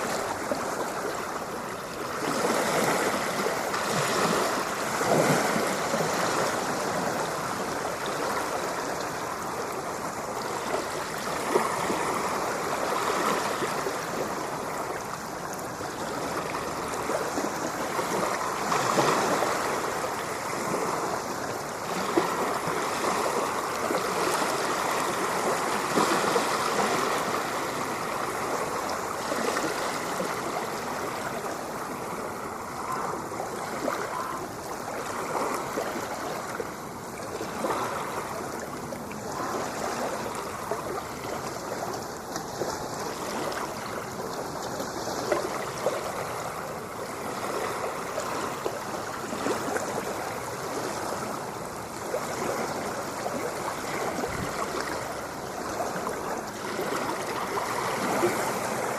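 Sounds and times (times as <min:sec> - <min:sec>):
ocean waves surf: 0:00.0 - 0:58.9.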